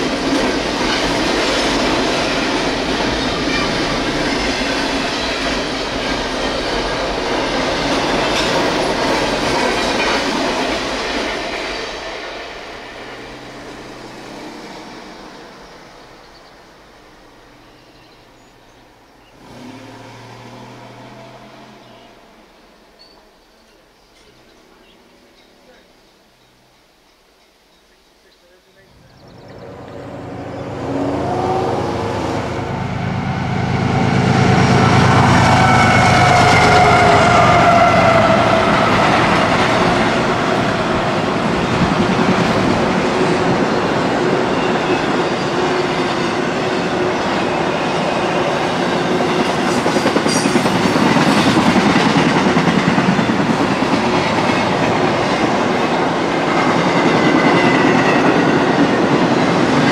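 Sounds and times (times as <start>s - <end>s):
freight train passing: 0.0s - 27.5s, 28.7s - 59.9s.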